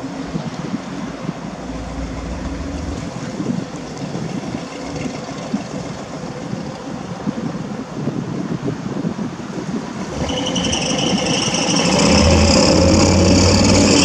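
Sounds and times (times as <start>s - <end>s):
exhaust pulsing unevenly: 0.0s - 14.0s.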